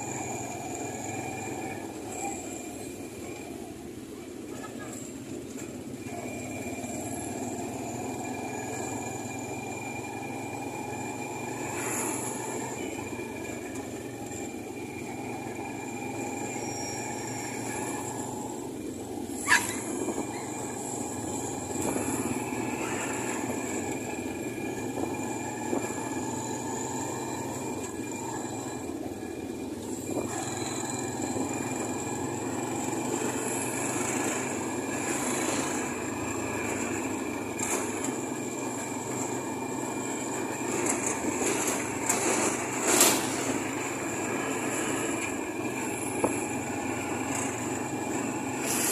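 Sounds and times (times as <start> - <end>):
vehicle engine and road rumble: 0.0 - 48.9.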